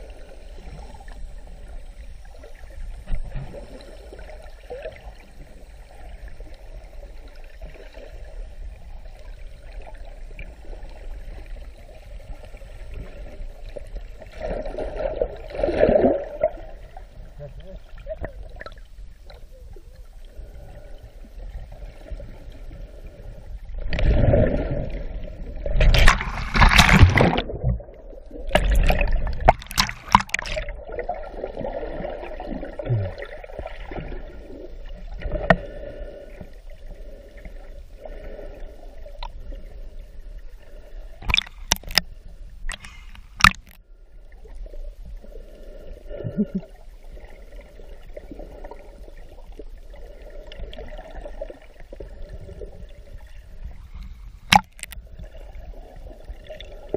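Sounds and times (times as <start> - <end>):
muffled underwater gurgling: 0.0 - 56.9.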